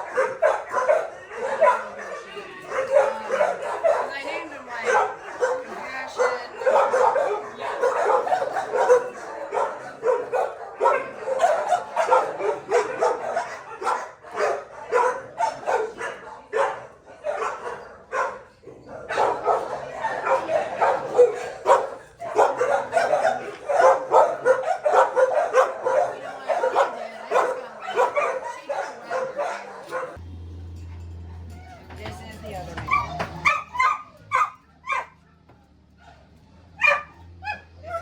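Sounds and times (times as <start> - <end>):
dogs barking: 0.0 - 30.2, 31.2 - 38.0.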